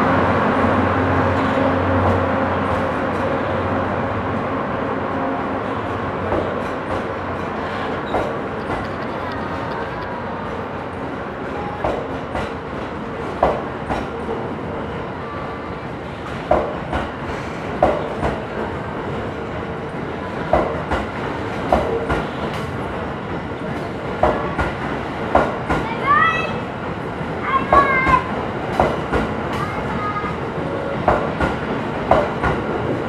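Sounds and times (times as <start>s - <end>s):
train coaches rumbling: 0.0s - 33.0s.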